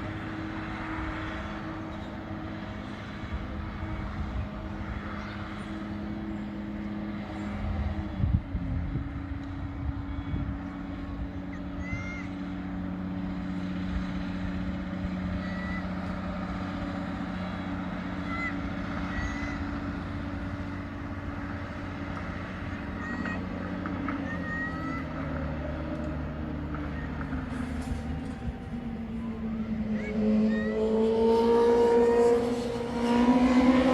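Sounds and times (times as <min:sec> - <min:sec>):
heavy machinery diesel engine: 0:00.0 - 0:33.9.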